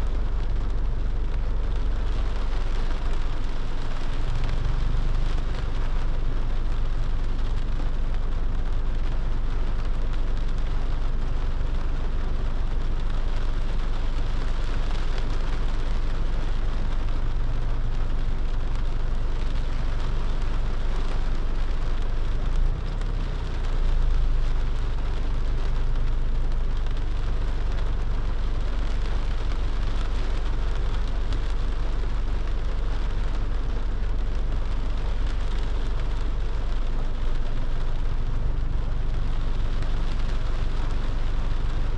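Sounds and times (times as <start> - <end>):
low road and engine rumble: 0.0 - 41.9
rain hissing on car: 0.0 - 41.9.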